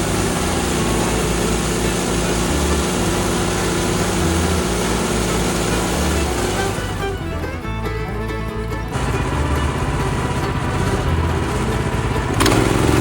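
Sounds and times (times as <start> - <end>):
bandsaw mill cutting log: 0.0 - 7.4, 8.9 - 13.0
country music track: 0.0 - 13.0.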